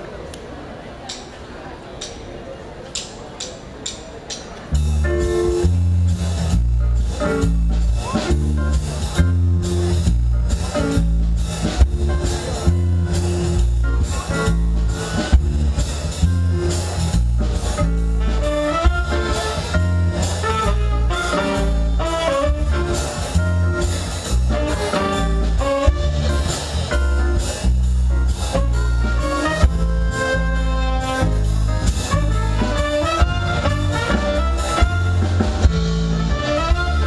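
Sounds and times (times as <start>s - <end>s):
jazz band playing live: 4.3s - 37.0s
drum and bass groove: 4.7s - 37.0s.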